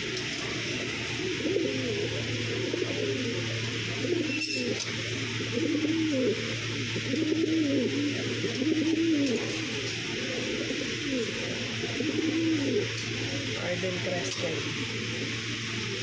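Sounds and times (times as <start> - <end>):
pigeons cooing: 0.0 - 16.0
steady low hum: 0.0 - 16.0.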